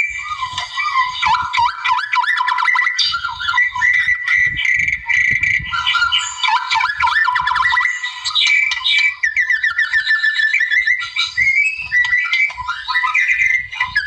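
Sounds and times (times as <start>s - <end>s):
shama whistles and trills: 0.0s - 14.0s.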